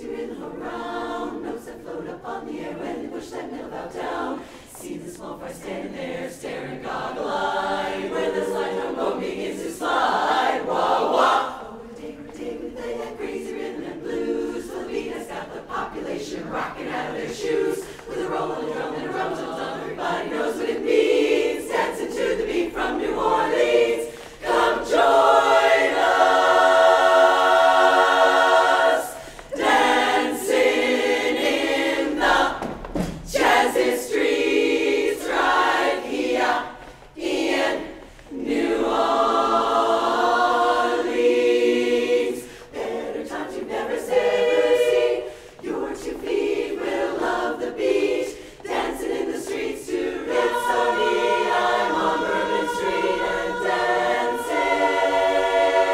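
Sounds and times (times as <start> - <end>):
women's chorus singing in harmony: 0.0 - 55.9.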